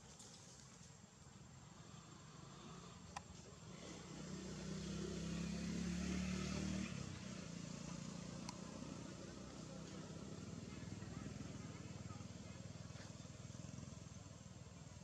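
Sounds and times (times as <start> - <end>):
vehicle engine drone: 1.7 - 15.0.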